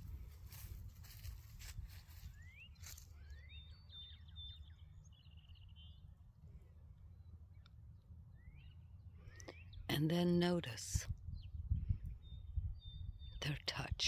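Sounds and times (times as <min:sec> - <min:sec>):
faint birdsong chirps: 0:00.0 - 0:14.0
low steady background rumble: 0:00.0 - 0:14.0.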